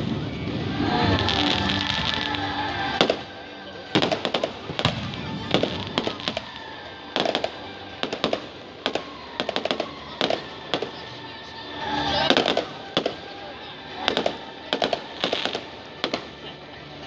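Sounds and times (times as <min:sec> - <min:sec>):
fireworks bangs: 0:00.0 - 0:11.2, 0:12.0 - 0:16.5
music: 0:00.0 - 0:17.0.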